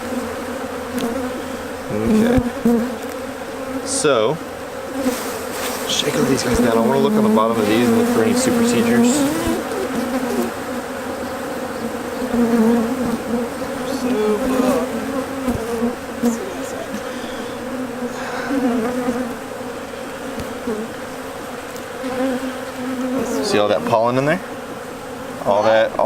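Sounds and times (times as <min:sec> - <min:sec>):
bees buzzing: 0:00.0 - 0:26.0.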